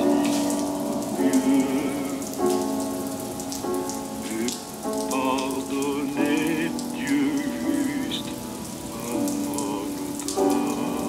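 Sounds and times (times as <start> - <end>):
water drops pattering and splashing: 0.0 - 11.0.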